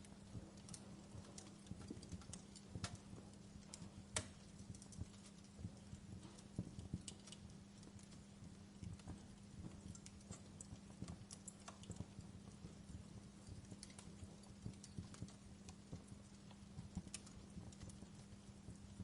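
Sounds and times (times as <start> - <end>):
steady low hum: 0.0 - 19.0
wood fire crackling: 0.0 - 19.0.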